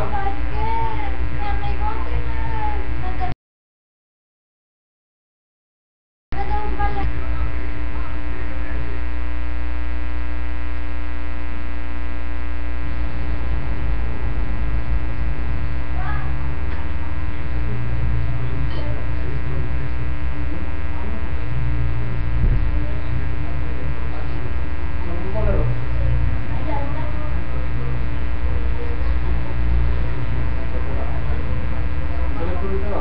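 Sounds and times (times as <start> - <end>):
electrical mains hum: 0.0 - 3.4, 6.3 - 33.0.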